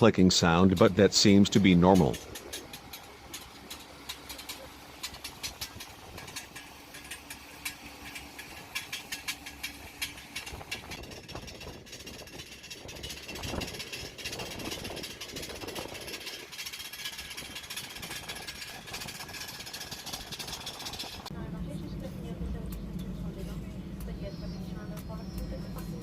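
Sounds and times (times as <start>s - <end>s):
jet engine rapid clicking: 0.0s - 26.0s.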